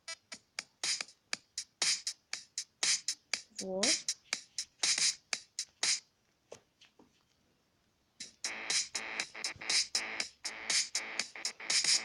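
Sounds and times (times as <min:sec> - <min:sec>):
electronic pop loop: 0:00.0 - 0:06.0, 0:08.2 - 0:12.0.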